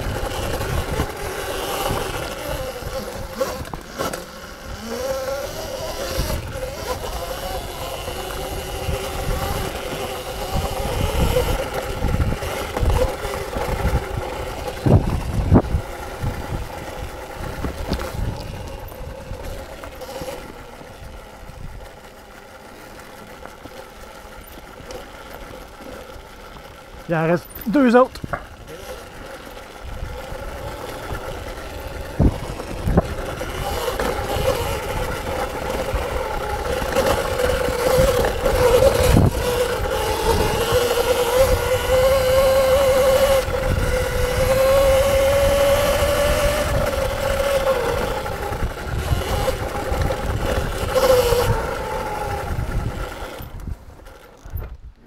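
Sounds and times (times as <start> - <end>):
electric motor whining: 0.0 - 54.6.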